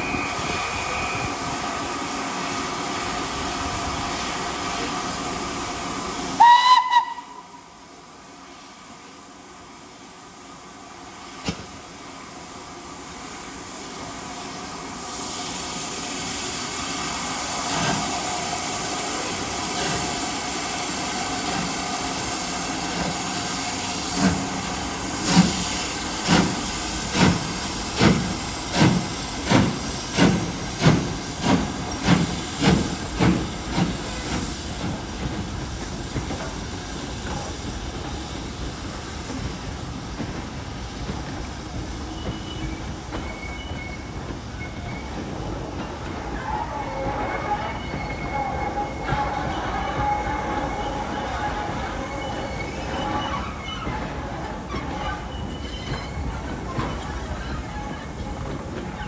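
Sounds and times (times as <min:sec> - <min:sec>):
steam hissing: 0:00.0 - 0:59.0
steam locomotive exhaust beats: 0:00.0 - 0:59.0
train rumbling on rails: 0:00.0 - 0:59.0.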